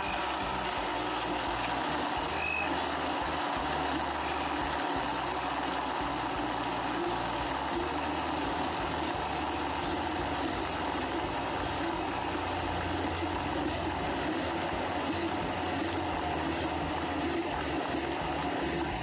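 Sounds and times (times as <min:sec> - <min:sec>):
electric blender running: 0:00.0 - 0:19.0.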